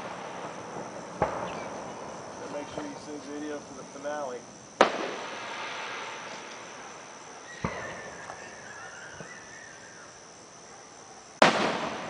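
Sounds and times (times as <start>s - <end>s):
firework shells bursting: 0.0s - 9.6s, 11.4s - 12.0s
crickets chirring: 0.0s - 12.0s.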